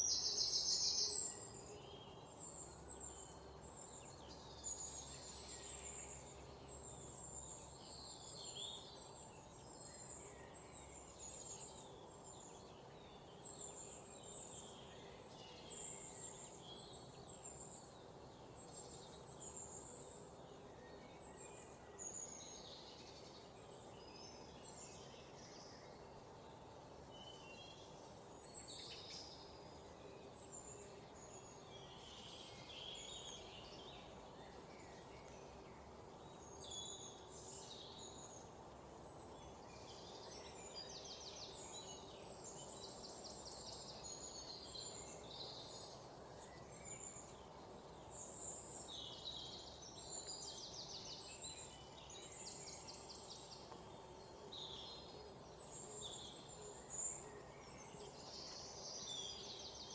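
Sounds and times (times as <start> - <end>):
faint steady background noise: 0.0 - 59.9
songbirds chirping: 0.0 - 59.9.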